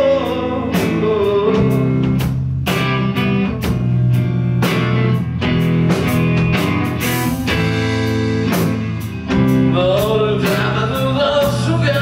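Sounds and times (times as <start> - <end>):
drum kit: 0.0 - 12.0
guitar chords: 0.0 - 12.0.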